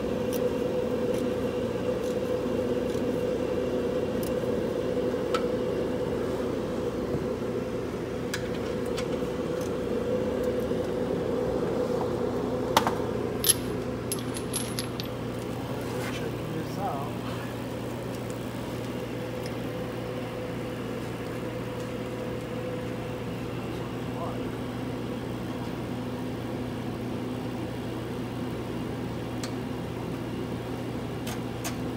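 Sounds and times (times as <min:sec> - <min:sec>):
steady mechanical hum: 0:00.0 - 0:31.9.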